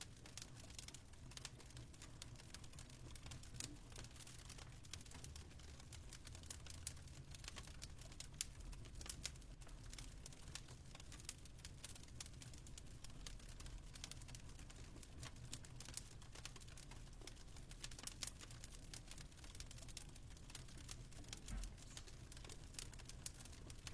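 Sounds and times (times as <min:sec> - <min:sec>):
fireplace crackling: 0:00.0 - 0:23.9.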